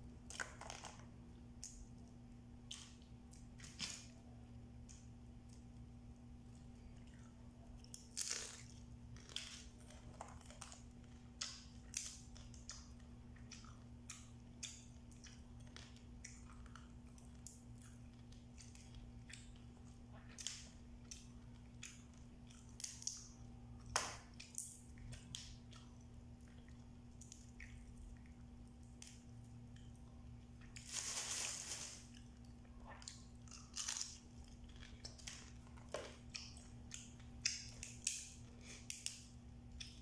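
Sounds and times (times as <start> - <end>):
steady low hum: 0.0 - 40.0
chewing: 6.4 - 30.9, 32.0 - 40.0.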